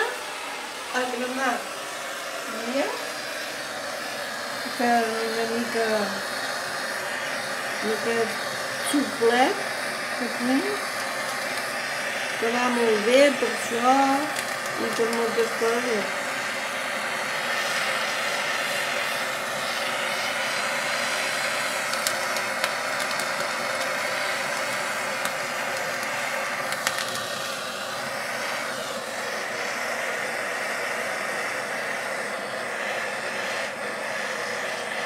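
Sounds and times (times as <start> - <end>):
blowtorch flame hissing: 0.0 - 35.0.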